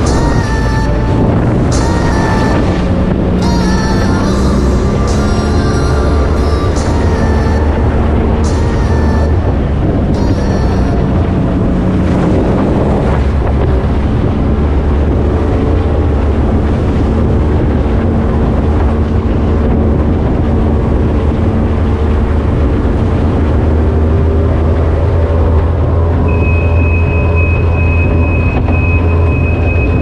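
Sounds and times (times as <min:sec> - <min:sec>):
powerboat engines droning: 0:00.0 - 0:30.0
wind buffeting microphone: 0:00.0 - 0:30.0.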